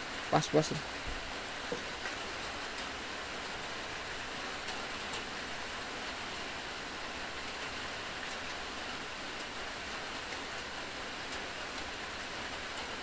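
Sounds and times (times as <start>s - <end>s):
rain falling on water: 0.0s - 13.0s.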